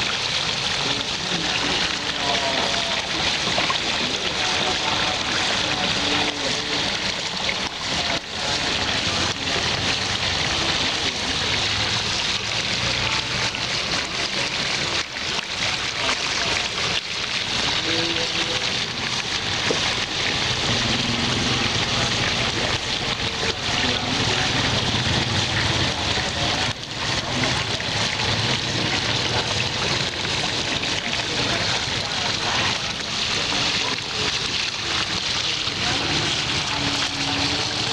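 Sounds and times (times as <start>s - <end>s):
water pouring and splashing: 0.0s - 37.9s.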